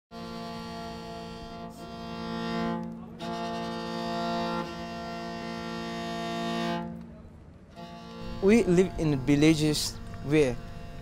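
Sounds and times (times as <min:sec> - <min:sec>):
slow sustained instrumental notes: 0:00.1 - 0:11.0.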